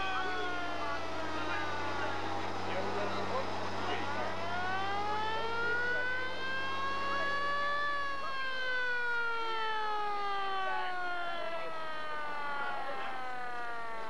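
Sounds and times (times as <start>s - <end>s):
siren wailing: 0.0s - 14.0s.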